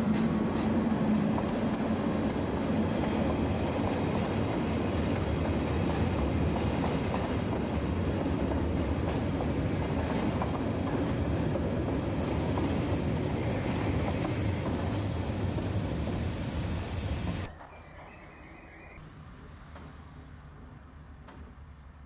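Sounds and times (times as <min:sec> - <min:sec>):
train coaches rolling past: 0:00.0 - 0:21.8.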